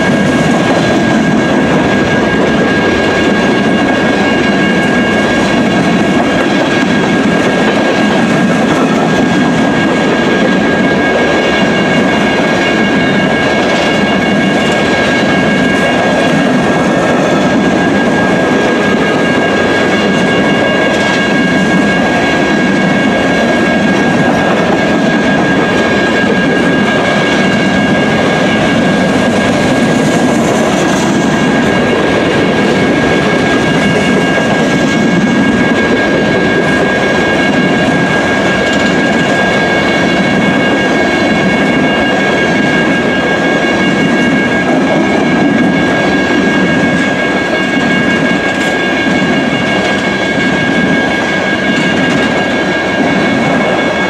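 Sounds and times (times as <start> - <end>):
high-pitched ringing tone: 0.0 - 54.0
train wheels clattering on rails: 0.0 - 54.0.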